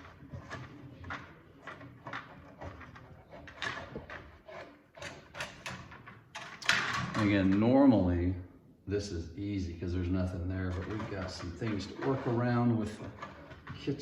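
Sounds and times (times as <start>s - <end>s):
cable scraping inside drywall: 0.0s - 7.8s, 9.9s - 14.0s.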